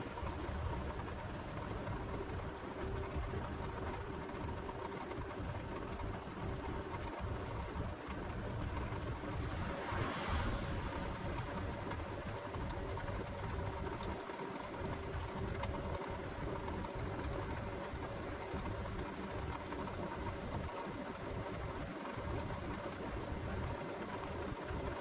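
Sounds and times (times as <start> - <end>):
constant hum tones: 0.0 - 25.0.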